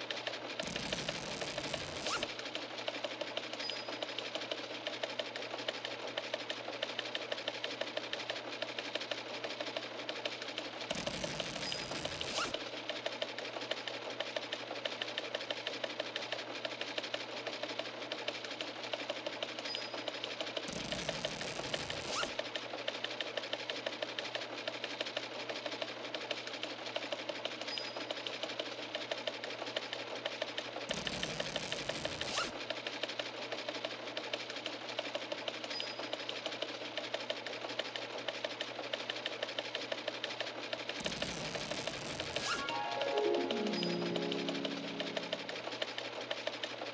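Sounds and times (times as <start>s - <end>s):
rapid mechanical clicking: 0.0s - 42.4s.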